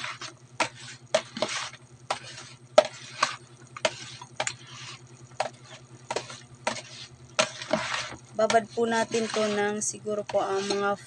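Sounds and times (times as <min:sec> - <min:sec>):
low steady hum: 0:00.0 - 0:11.0
wet scraping: 0:00.0 - 0:11.0.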